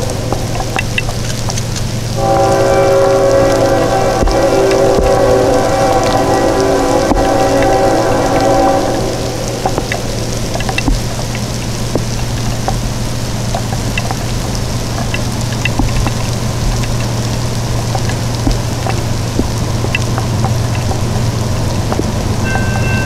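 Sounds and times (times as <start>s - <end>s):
drops ticking: 0.0s - 23.0s
low hum: 0.0s - 23.0s
steady rain: 0.0s - 23.0s.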